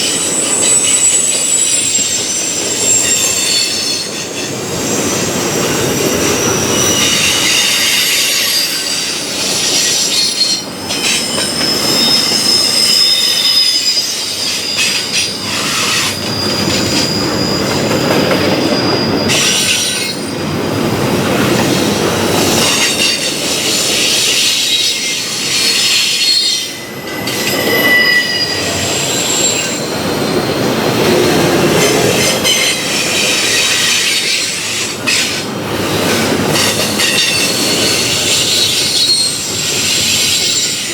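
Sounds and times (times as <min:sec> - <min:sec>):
wheel flanges squealing: 0:00.0 - 0:20.4, 0:21.8 - 0:40.9
train wheels rumbling on rails: 0:00.0 - 0:40.9.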